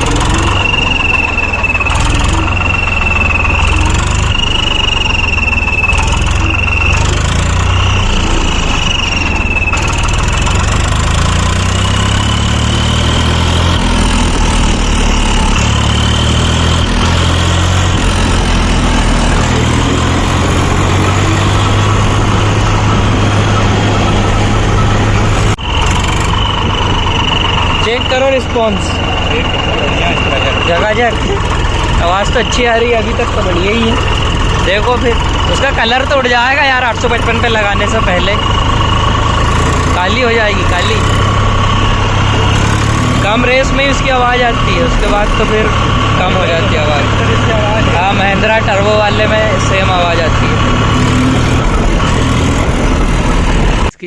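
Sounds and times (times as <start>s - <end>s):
tractor diesel engine rumble: 0.0s - 54.0s
wavering high exhaust whistle: 0.0s - 54.0s.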